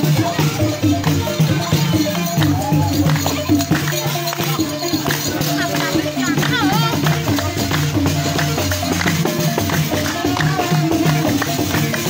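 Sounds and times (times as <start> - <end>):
balafon music: 0.0 - 12.0.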